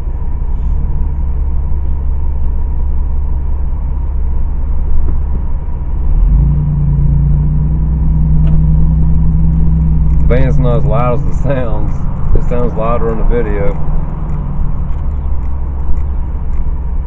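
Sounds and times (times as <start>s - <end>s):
car engine and road rumble: 0.0s - 17.0s
steady low hum: 0.0s - 17.0s.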